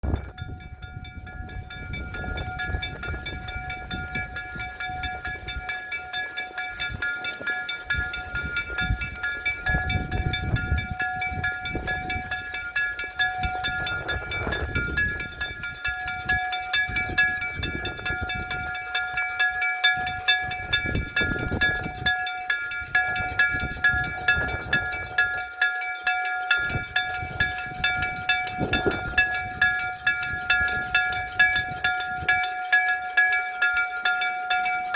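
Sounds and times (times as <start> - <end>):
level crossing gong ringing: 0.2 - 34.9.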